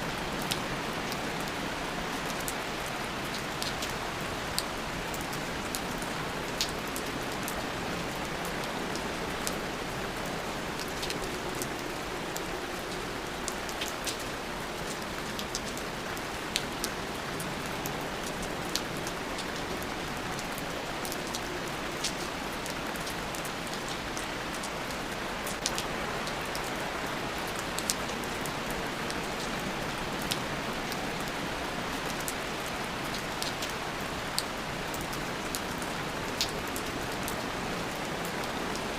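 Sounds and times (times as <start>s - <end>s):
steady rain: 0.0s - 38.9s
raindrops ticking on a surface: 0.1s - 38.9s.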